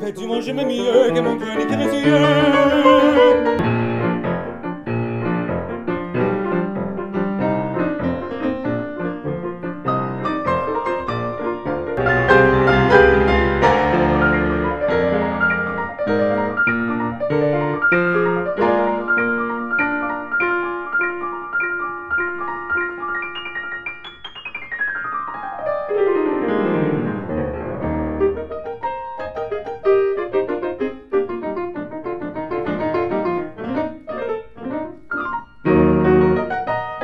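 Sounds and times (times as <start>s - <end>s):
classical piano music: 0.0s - 37.0s.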